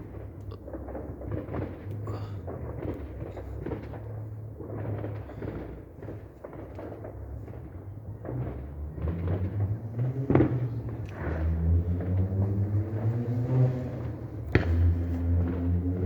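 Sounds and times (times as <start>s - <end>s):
fireworks bangs and thuds: 0.0s - 16.0s.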